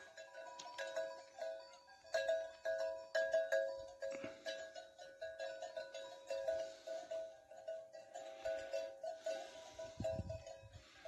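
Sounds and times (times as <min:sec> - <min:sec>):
bell-like tones ringing: 0:00.0 - 0:11.0.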